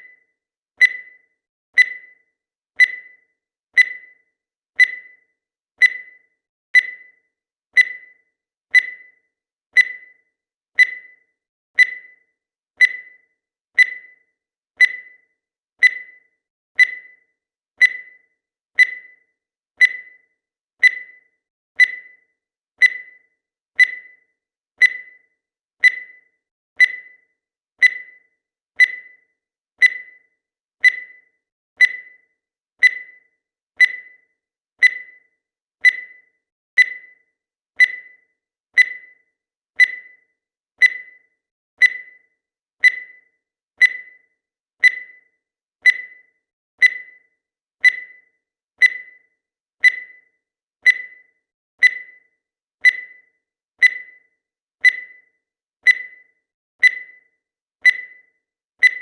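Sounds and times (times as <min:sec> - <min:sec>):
high-pitched timer ticks: 0:00.0 - 0:59.0.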